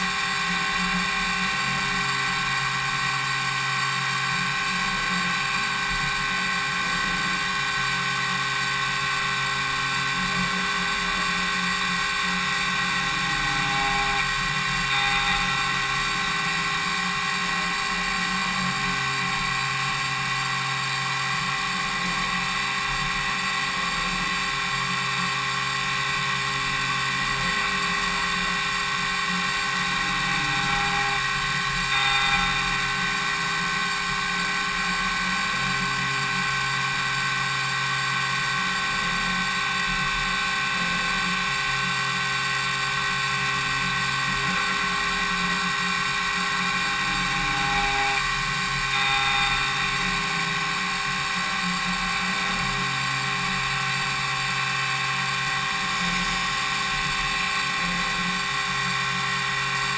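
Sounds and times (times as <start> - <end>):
machine spindle whining: 0.0 - 59.9.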